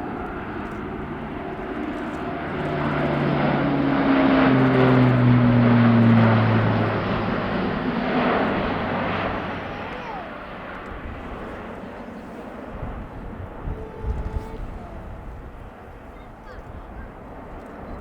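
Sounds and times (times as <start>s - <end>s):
propeller aircraft passing by: 0.0s - 18.0s.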